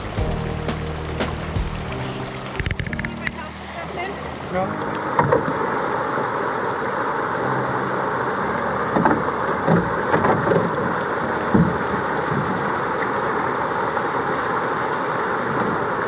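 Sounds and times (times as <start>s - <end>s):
water rushing over dam: 0.0s - 16.0s.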